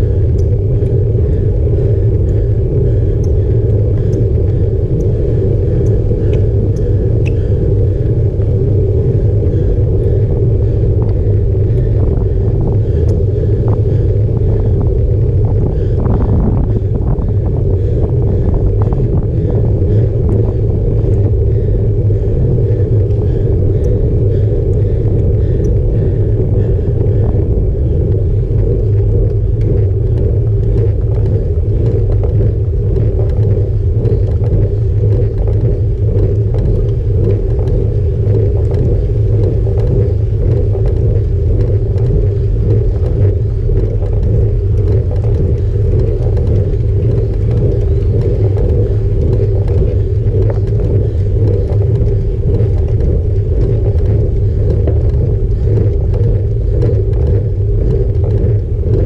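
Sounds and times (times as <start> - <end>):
bicycle rolling on paved road: 0.0 - 59.0.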